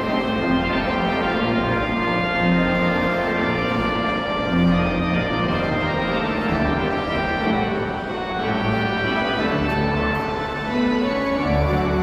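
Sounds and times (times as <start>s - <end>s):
pipe organ playing chords: 0.0s - 12.0s.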